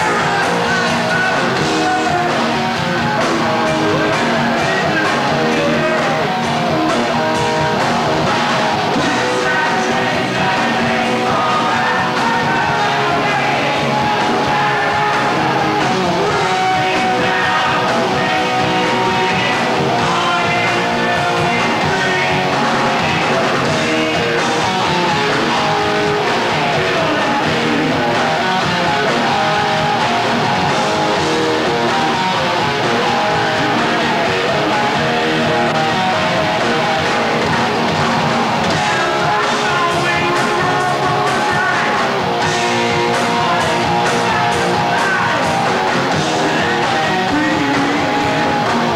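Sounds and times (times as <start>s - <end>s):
heavy metal band playing: 0.0s - 48.9s
person singing: 0.0s - 48.9s.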